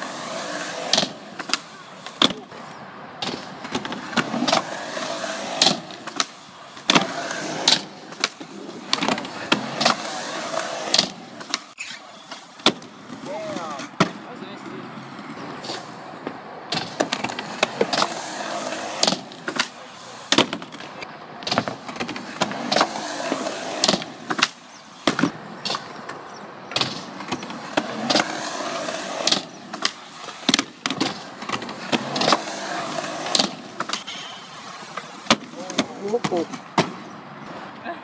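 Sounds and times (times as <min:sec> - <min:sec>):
skateboard wheels rolling: 0:00.0 - 0:38.0
skateboard clacks: 0:03.2 - 0:37.6.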